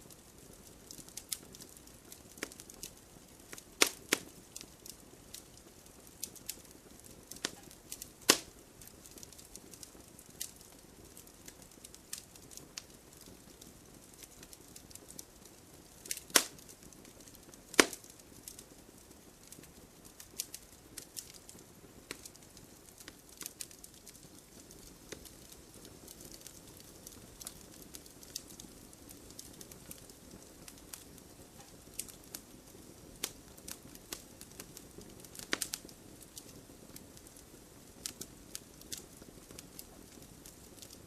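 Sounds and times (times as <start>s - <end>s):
fire crackling and popping: 0.0s - 41.0s.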